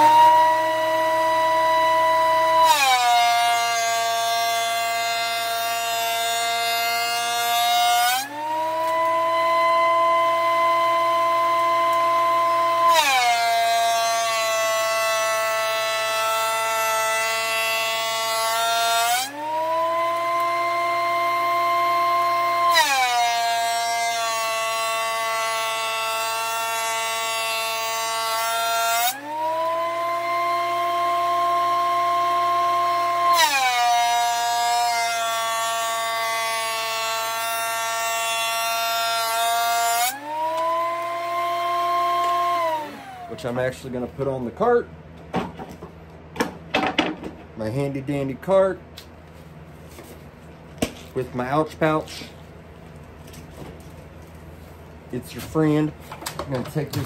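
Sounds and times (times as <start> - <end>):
thickness planer motor whine: 0.0 - 57.0.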